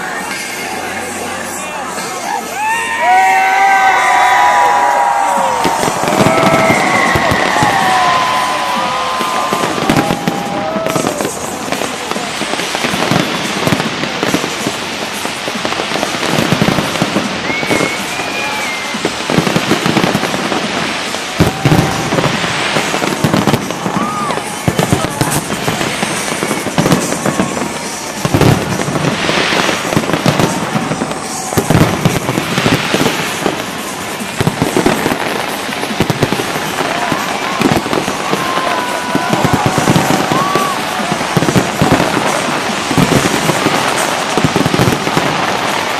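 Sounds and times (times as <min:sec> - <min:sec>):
fireworks banging and crackling: 0:00.0 - 0:45.9
loud firework booms: 0:04.1 - 0:45.9.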